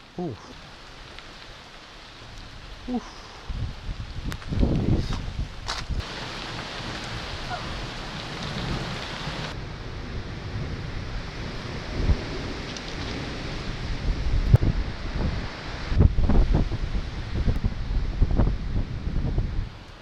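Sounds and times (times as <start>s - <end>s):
steady rain: 0.0s - 20.0s
wind buffeting microphone: 2.0s - 19.9s
low rumbling thunder: 3.4s - 19.6s.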